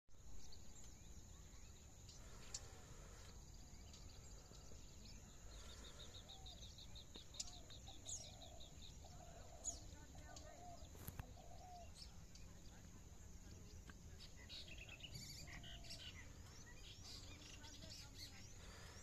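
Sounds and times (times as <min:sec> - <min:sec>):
small birds chirping: 0:00.1 - 0:19.0.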